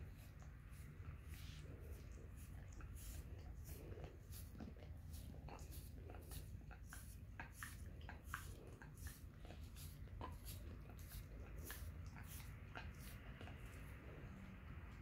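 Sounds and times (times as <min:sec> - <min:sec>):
dog licking a foot: 0:00.0 - 0:15.0.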